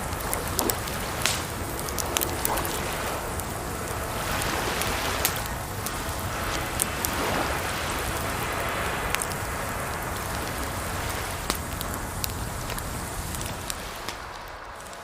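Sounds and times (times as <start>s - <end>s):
campfire crackling: 0.0s - 15.0s
running water hissing: 0.0s - 15.0s.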